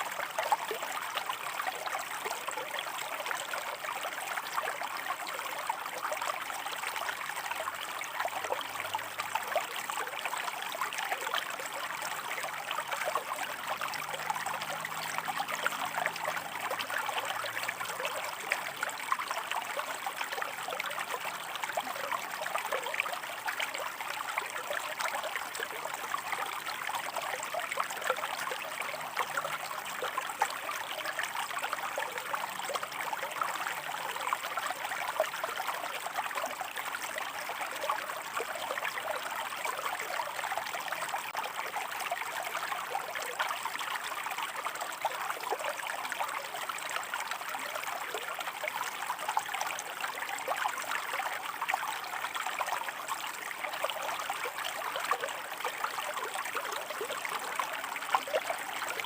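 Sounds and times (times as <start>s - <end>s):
river water babbling over rocks: 0.0s - 59.0s.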